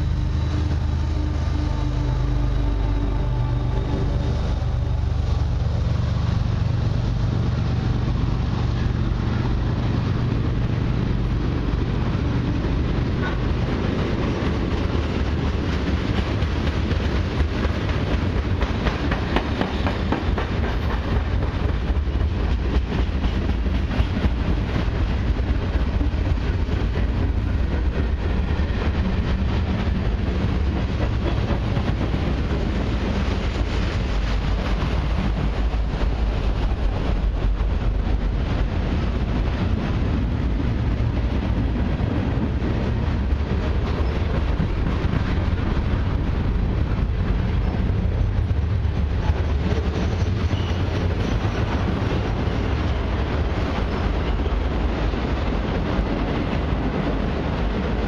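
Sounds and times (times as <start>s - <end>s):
diesel locomotive hum: 0.0s - 58.0s
train wheels rumbling on rails: 0.0s - 58.0s
wheels clicking over rail joints: 6.6s - 58.0s.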